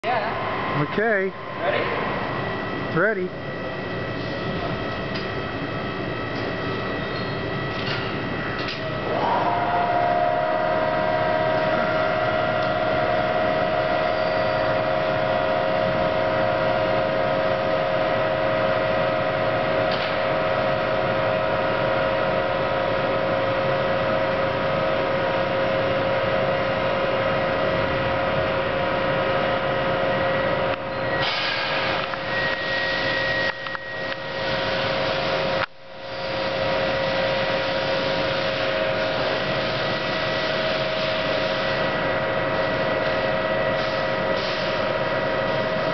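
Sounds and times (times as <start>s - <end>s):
hydraulic pump hum and whine: 0.0s - 45.9s.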